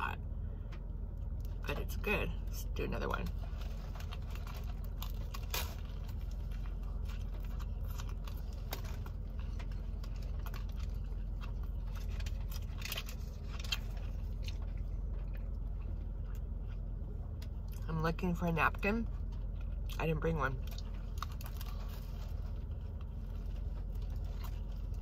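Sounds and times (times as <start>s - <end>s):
steady low hum: 0.0s - 25.0s
crunching and chewing sandwich: 2.4s - 17.9s, 19.0s - 25.0s.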